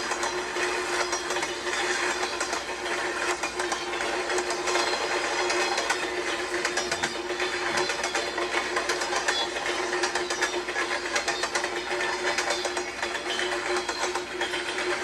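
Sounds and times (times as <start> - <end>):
train wheels clicking and rattling: 0.0 - 15.0.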